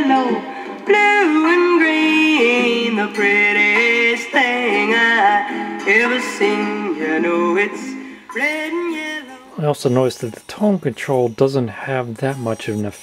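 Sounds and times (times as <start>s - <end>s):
song with singing on record player: 0.0s - 13.0s.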